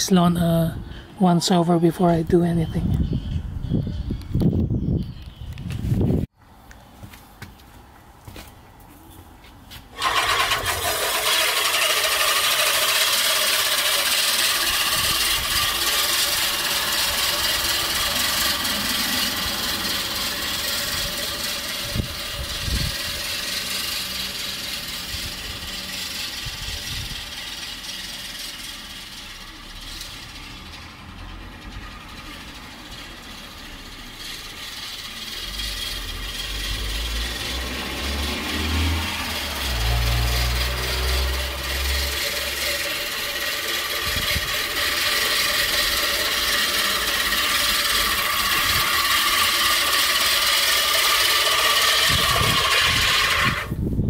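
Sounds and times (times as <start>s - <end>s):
push reel mower cutting grass: 9.8s - 53.9s.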